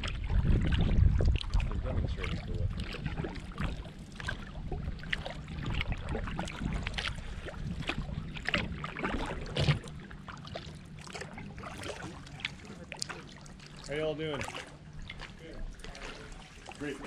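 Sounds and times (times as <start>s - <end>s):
kayak paddle splashing: 0.0s - 17.0s
low rumble: 0.0s - 17.0s
water dripping off paddle: 0.8s - 17.0s.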